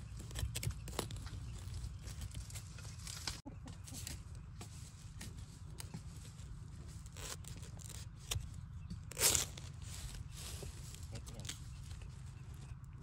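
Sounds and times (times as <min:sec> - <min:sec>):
low steady rumble: 0:00.0 - 0:13.0
dry leaves rustling and crackling: 0:00.1 - 0:12.9.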